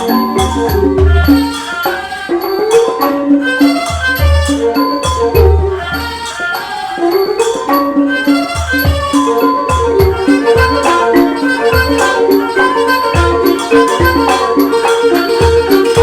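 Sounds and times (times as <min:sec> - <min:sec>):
mallet instruments playing: 0:00.0 - 0:16.0.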